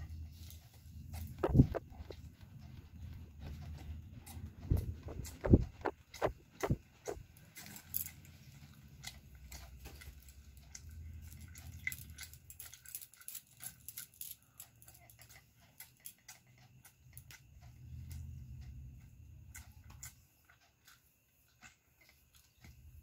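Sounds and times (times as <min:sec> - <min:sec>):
soft chewing: 0:00.0 - 0:23.0.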